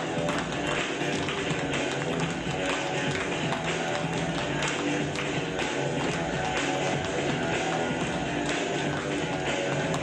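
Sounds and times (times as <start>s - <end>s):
music with a steady beat: 0.0s - 10.0s
people clapping along: 0.0s - 10.0s.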